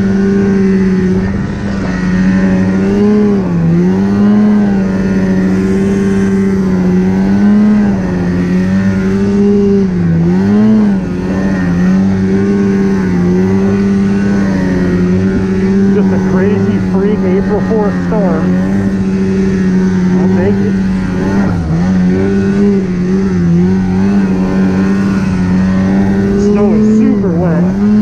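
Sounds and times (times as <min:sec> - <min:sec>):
snowmobile engine revving: 0:00.0 - 0:28.0.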